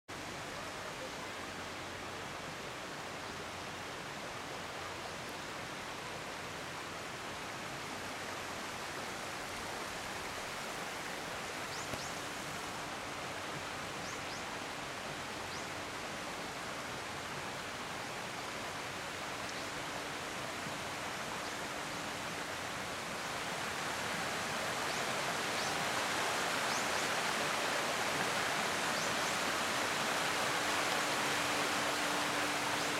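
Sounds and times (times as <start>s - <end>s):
stream running over rocks: 0.1s - 32.9s.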